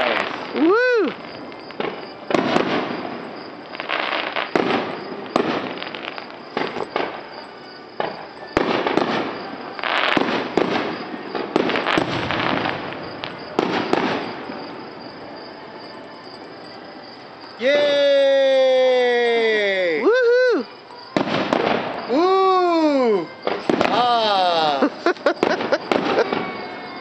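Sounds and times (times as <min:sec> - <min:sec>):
fireworks bangs with crackling: 0:00.0 - 0:27.0.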